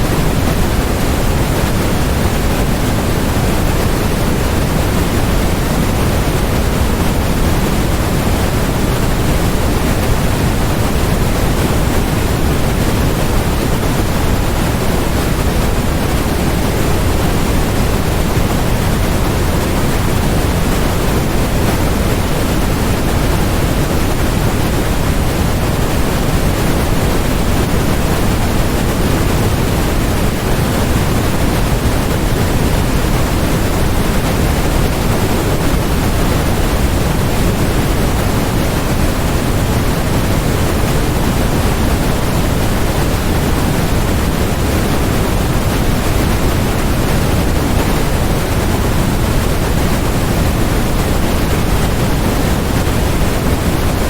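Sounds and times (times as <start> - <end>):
steady generated noise: 0.0 - 54.0.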